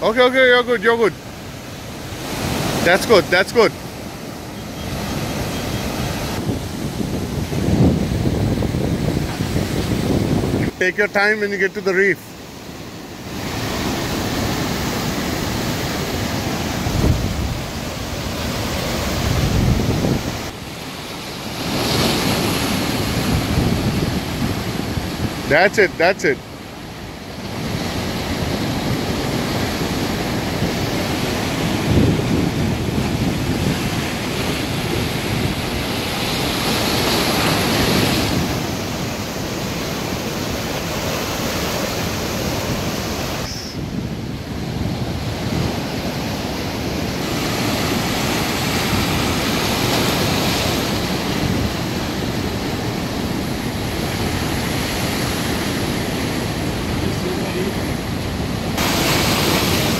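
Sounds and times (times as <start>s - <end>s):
surf breaking on rocks: 0.0s - 59.9s
wind buffeting microphone: 0.8s - 11.3s, 12.3s - 25.6s, 26.4s - 59.9s.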